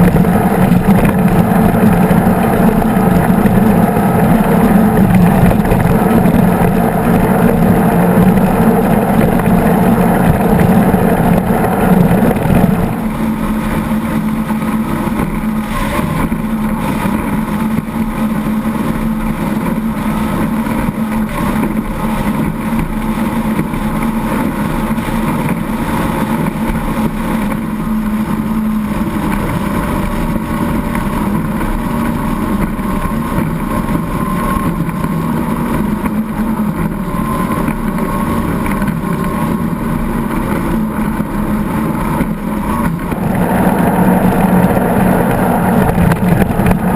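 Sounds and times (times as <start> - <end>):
boat engines running: 0.0 - 46.9
wind: 0.0 - 46.9.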